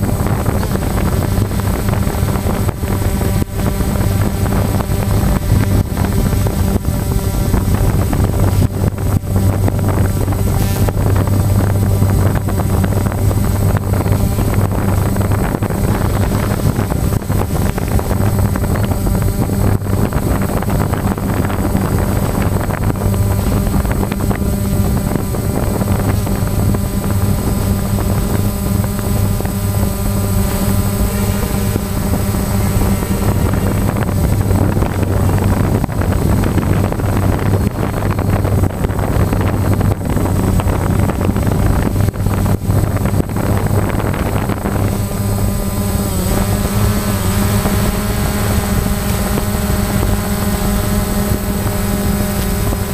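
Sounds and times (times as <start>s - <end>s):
dense rushing noise: 0.0s - 52.9s
machine hum low drone: 0.0s - 52.9s.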